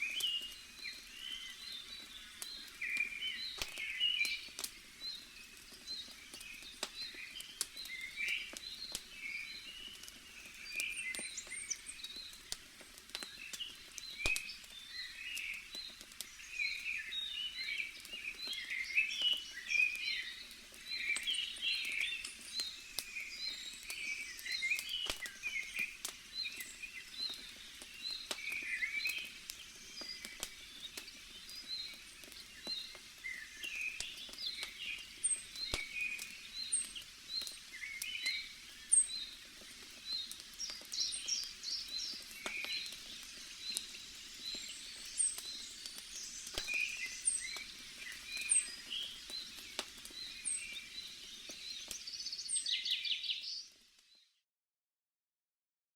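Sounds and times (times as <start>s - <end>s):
wood fire crackling: 0.0s - 53.0s
small birds chirping: 0.0s - 54.4s.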